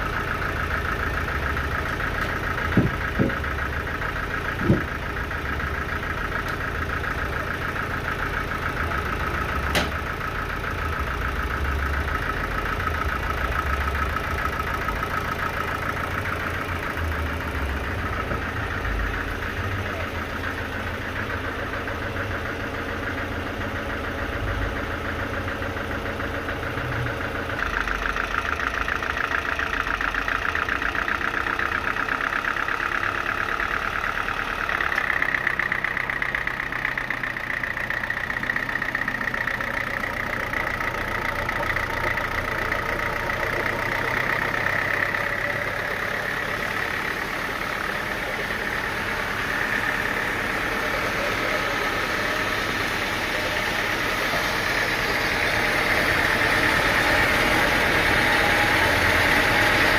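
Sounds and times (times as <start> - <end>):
sawmill engine drone: 0.0 - 59.9.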